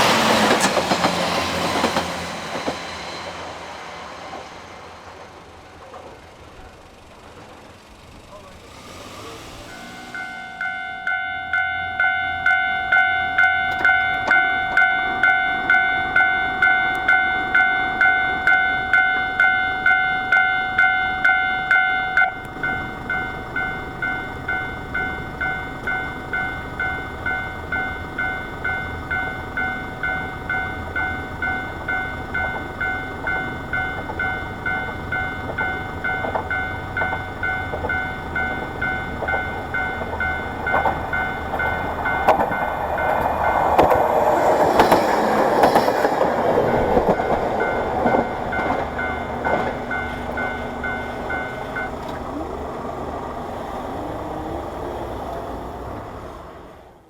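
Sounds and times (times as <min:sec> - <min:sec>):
train rumbling: 0:00.0 - 0:57.0
level crossing warning bell: 0:08.6 - 0:55.0.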